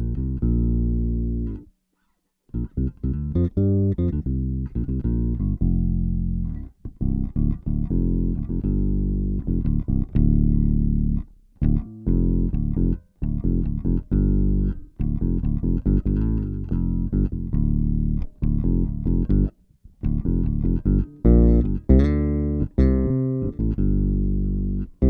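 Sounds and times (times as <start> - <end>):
electric bass with octave effect: 0.0 - 1.7, 2.5 - 25.0.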